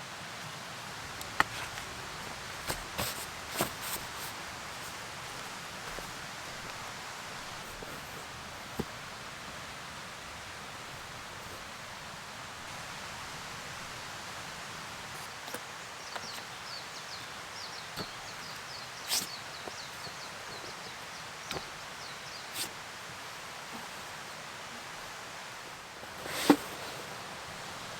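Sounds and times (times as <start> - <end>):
steady rain in woodland: 0.0 - 27.9.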